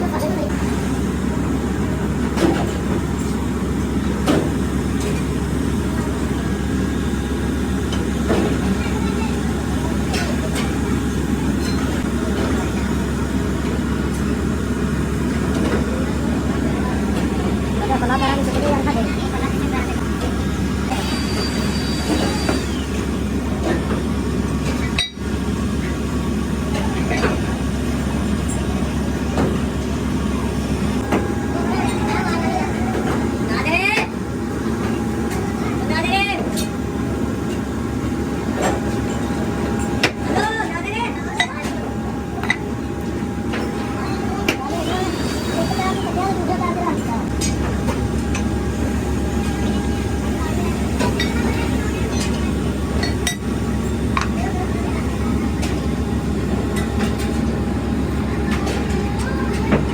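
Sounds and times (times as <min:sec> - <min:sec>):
workshop machinery rumble: 0:00.0 - 0:59.9.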